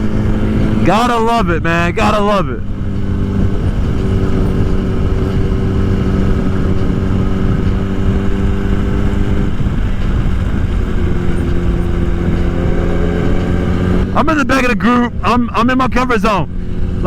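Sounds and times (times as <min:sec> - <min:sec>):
motorcycle engine running: 0:00.0 - 0:17.0
wind noise: 0:00.0 - 0:17.0.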